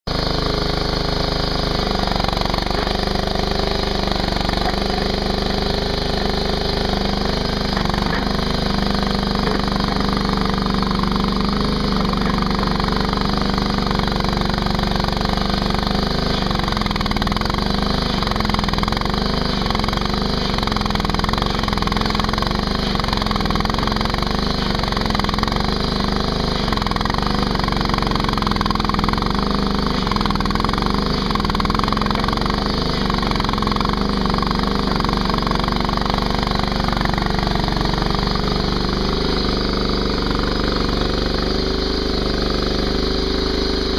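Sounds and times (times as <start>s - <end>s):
skid steer engine running: 0.1s - 43.9s.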